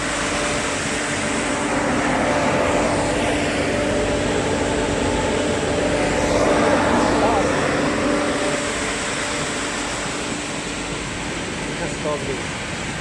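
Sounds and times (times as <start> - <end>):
sanding machinery drone: 0.0 - 13.0.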